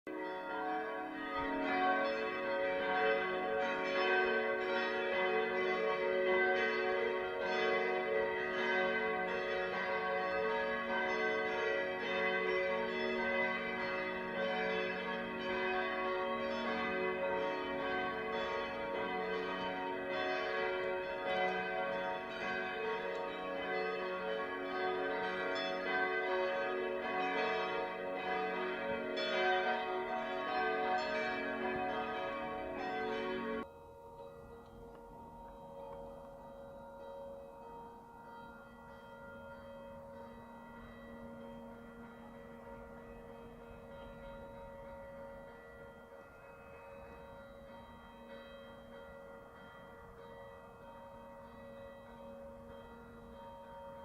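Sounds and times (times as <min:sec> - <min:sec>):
church bells ringing: 0:00.1 - 0:54.0.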